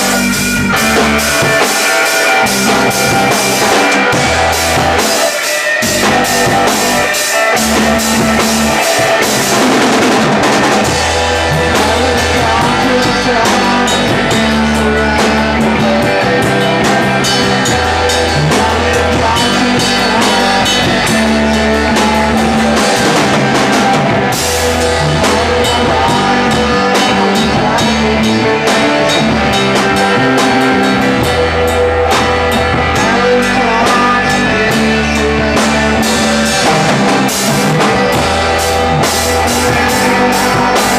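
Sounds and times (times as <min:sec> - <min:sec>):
rock music with drums and guitar: 0:00.0 - 0:40.9.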